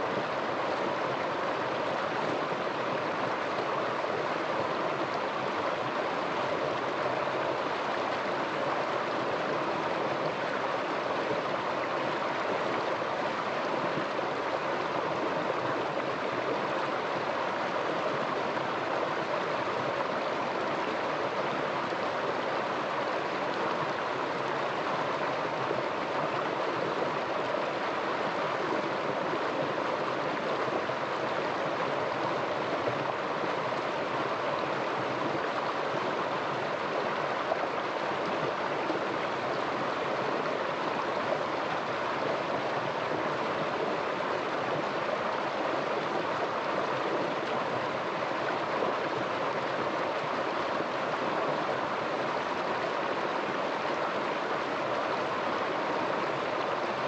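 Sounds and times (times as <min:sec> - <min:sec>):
stream splashing over rocks: 0:00.0 - 0:57.0.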